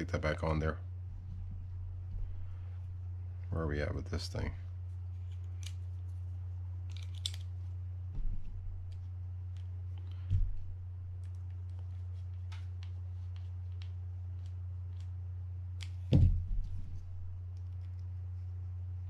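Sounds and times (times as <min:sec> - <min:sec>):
low hum: 0:00.0 - 0:12.3, 0:14.0 - 0:19.0.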